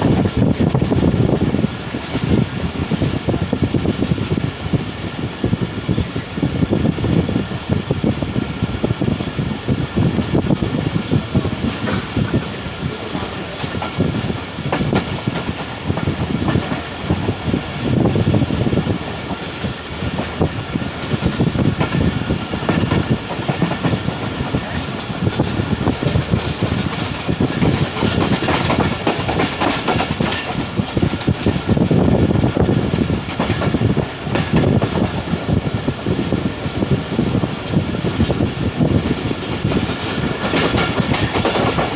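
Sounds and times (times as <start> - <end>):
clickety-clack of rail joints: 0.0 - 41.9
train wheels rumbling on track: 0.0 - 41.9.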